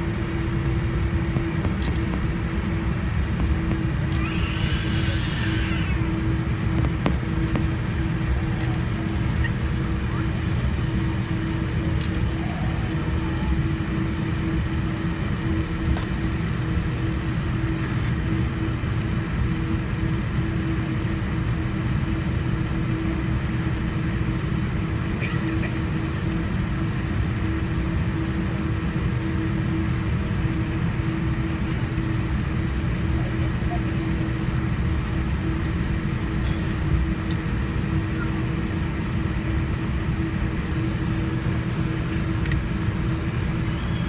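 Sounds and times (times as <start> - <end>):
airliner cabin engine hum: 0.0 - 44.0.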